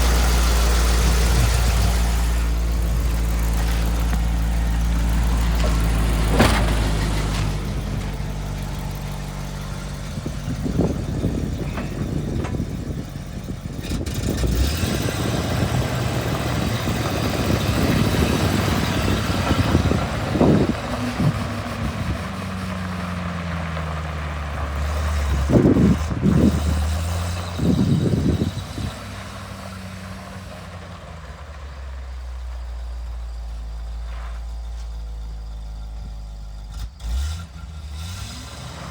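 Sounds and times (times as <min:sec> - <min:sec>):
truck engine idling and surging: 0:00.0 - 0:38.9.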